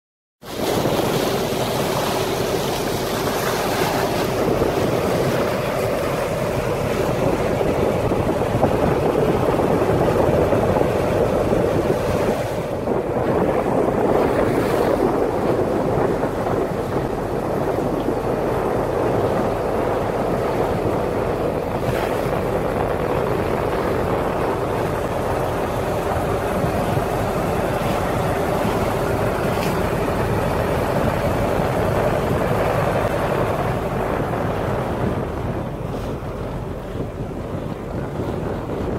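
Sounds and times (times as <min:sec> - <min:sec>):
boat engine running: 0:00.4 - 0:38.9
water rushing past hull: 0:00.4 - 0:38.9
wind buffeting microphone: 0:00.4 - 0:38.9.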